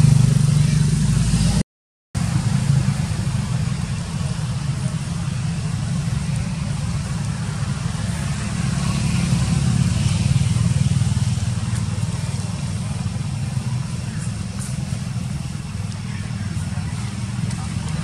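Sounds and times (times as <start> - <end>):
motor engine running: 0.0 - 1.6, 2.2 - 18.0.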